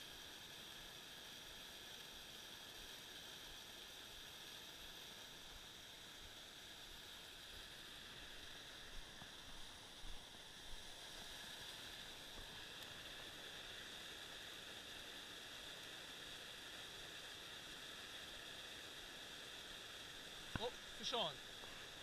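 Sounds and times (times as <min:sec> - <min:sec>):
muffled creek water rushing: 0:00.0 - 0:22.0.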